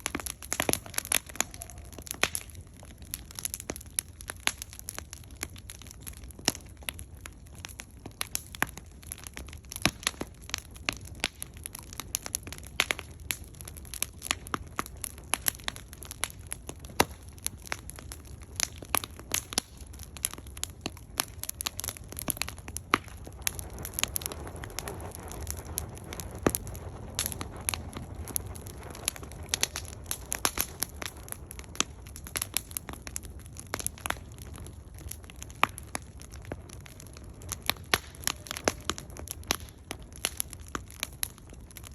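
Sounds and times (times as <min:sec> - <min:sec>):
campfire crackling and popping: 0:00.0 - 0:41.9
rush of flame: 0:00.0 - 0:41.9.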